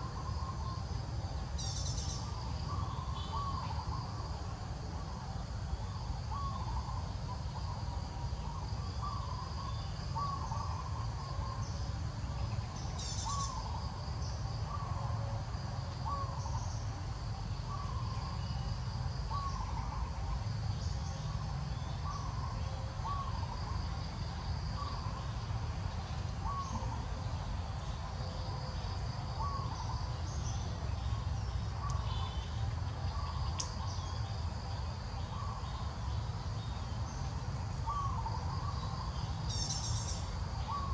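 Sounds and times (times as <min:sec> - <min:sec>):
faint high insect drone: 0:00.0 - 0:40.9.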